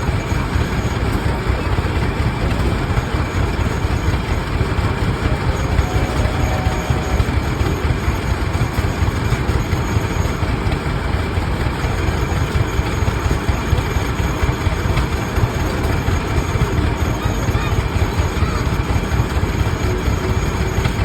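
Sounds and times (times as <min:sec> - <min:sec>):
tractor engines running: 0:00.0 - 0:21.0.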